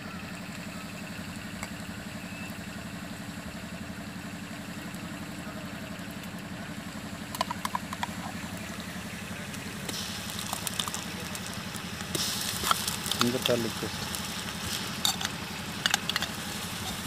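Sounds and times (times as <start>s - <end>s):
low throbbing mechanical hum: 0.0s - 17.0s.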